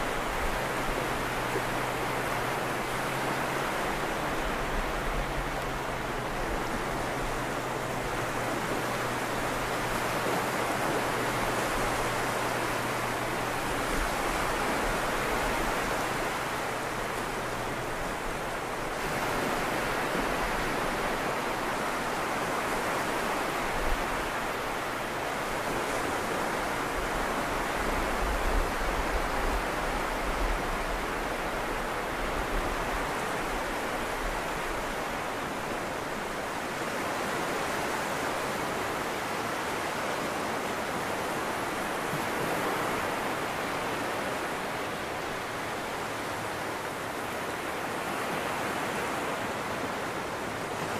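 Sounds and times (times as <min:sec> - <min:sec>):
small waves breaking on beach: 0:00.0 - 0:50.9.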